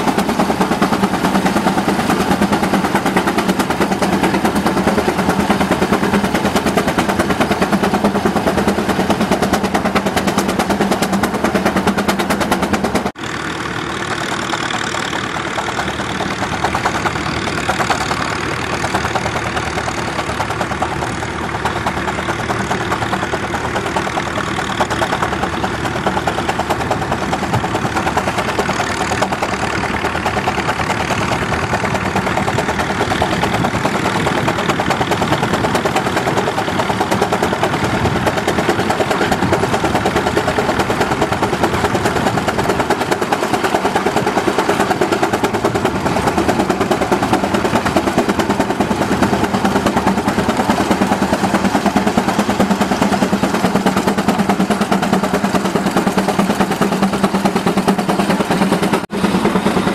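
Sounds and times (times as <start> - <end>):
steam engine beating: 0.0 - 59.9.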